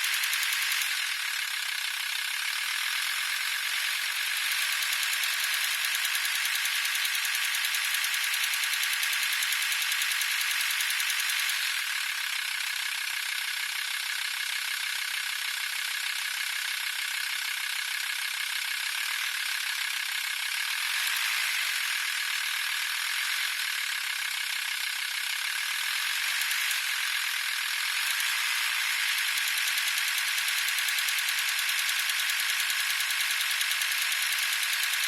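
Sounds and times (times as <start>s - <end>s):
engine belt rattle: 0.0s - 35.0s.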